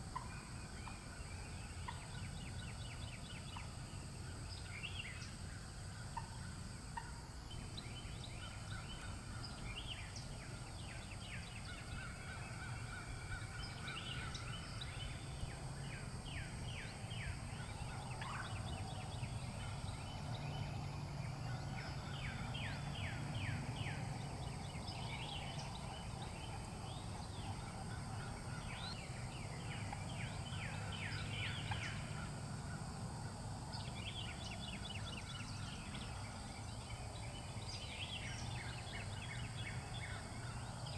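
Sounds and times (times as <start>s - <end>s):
low outdoor rumble: 0.0s - 40.9s.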